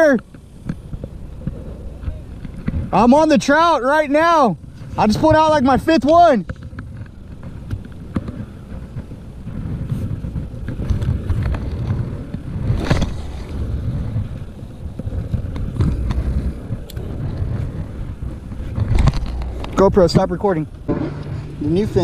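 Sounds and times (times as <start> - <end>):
handling rumble: 0.0 - 22.0.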